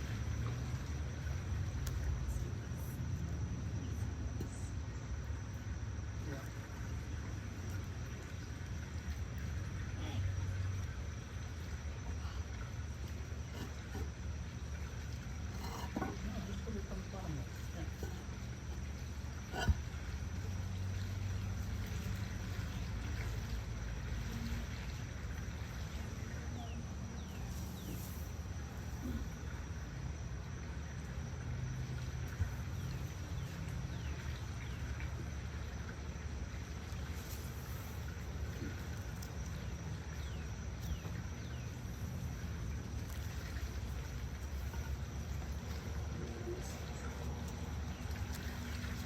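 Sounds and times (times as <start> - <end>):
low outdoor hum: 0.0 - 49.0.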